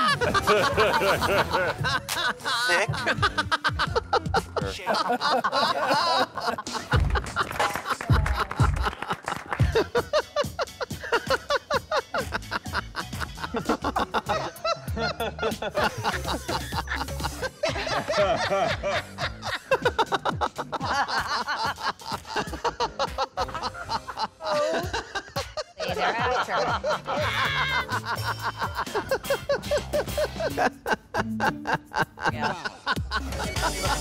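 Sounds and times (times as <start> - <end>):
man laughing hard: 0.0 - 34.0
runway background music: 0.0 - 34.0.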